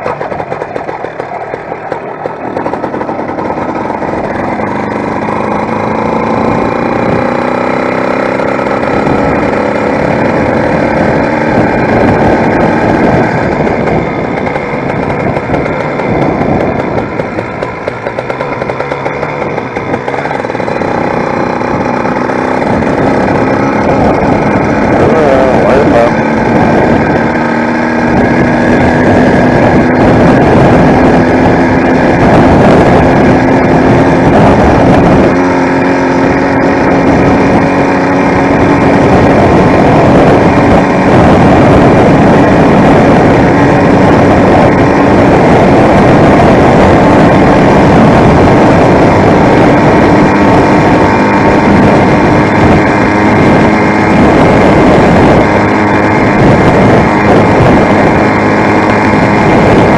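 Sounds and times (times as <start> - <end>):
two-stroke engine running: 0.0 - 59.9.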